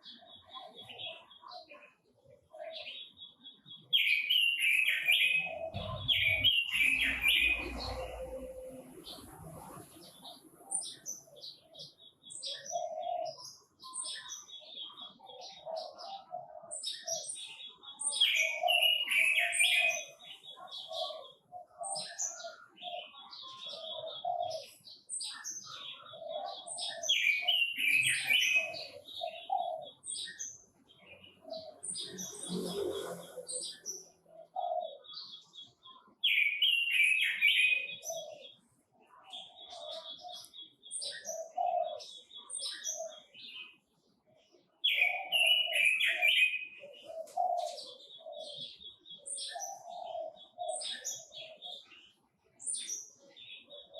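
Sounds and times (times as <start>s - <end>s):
bird warbling song: 0.0s - 53.9s.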